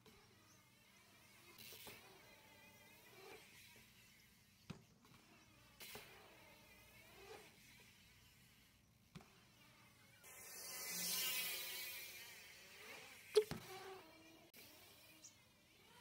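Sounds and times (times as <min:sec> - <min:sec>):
bike tyres rolling on concrete: 0:00.0 - 0:16.0.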